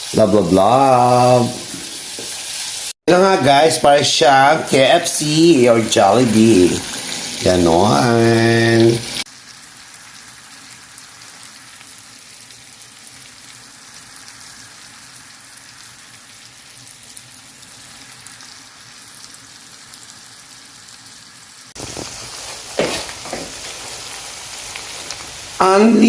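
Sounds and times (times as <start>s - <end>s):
deep-frying oil sizzling: 0.0s - 26.0s.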